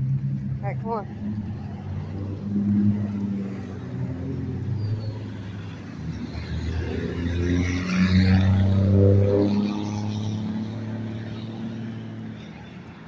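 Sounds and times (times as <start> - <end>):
car passing on road: 0.0 - 13.0.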